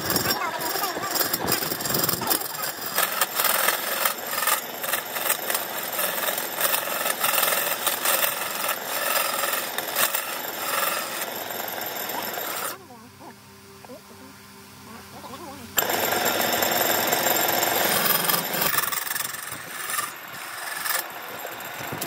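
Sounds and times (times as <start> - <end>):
lathe tool rasping wood: 0.0 - 12.8, 15.8 - 22.0.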